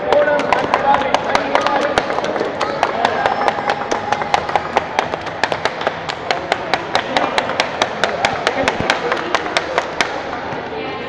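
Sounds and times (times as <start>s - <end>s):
people clapping: 0.0s - 10.4s.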